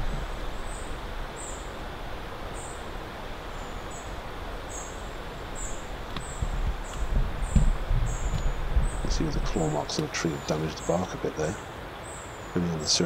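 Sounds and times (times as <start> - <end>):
small bird calling: 0.0 - 13.0
woodland hiss: 0.0 - 13.0.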